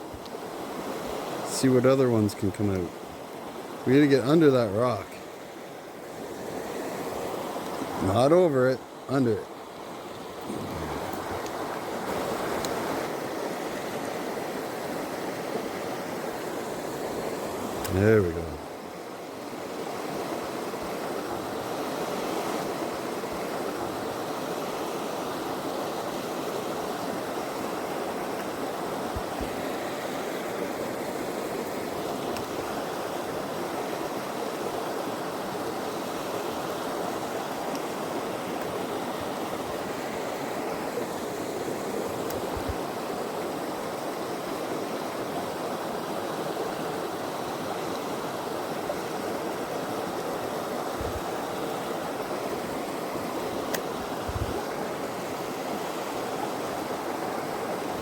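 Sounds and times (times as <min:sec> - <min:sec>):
creek water over stones: 0:00.0 - 0:58.0.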